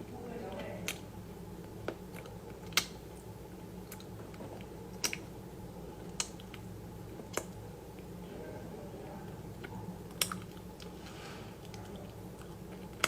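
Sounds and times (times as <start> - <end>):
low steady hum: 0.0 - 13.0
chewing crunchy food: 0.4 - 8.2, 9.2 - 13.0.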